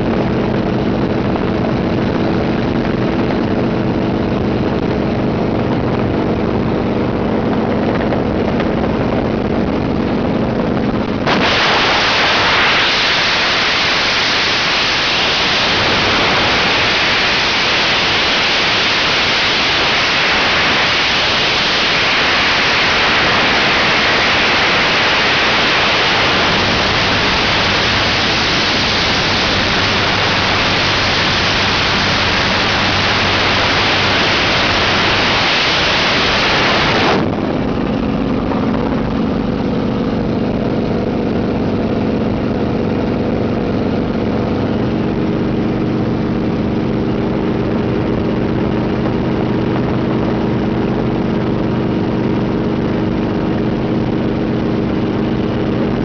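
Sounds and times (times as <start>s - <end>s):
helicopter rotor drone: 0.0s - 56.0s
wind noise rushing: 0.1s - 48.7s.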